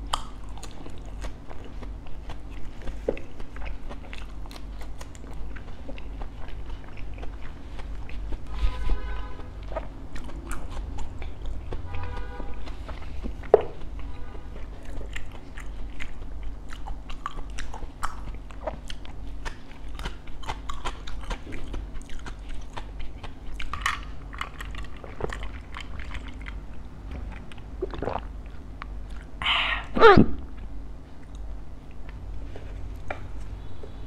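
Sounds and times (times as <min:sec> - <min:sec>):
crunchy eating: 0:00.0 - 0:29.7.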